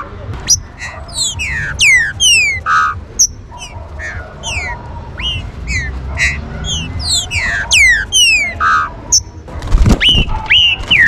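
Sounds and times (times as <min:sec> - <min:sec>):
birds whistling downward notes: 0:00.4 - 0:11.0
harsh buzzy bird notes: 0:00.4 - 0:11.0.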